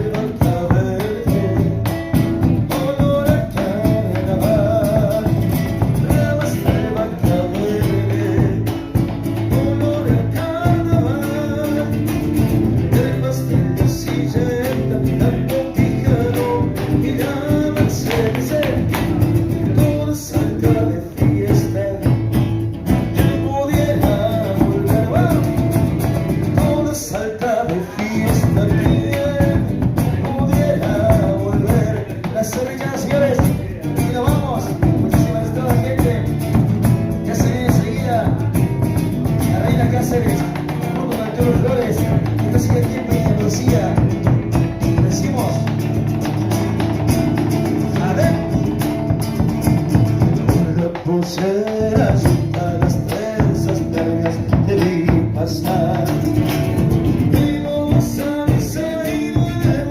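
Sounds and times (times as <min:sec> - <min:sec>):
person singing: 0:00.0 - 0:22.4, 0:23.0 - 0:59.9
strummed guitars: 0:00.0 - 0:59.9.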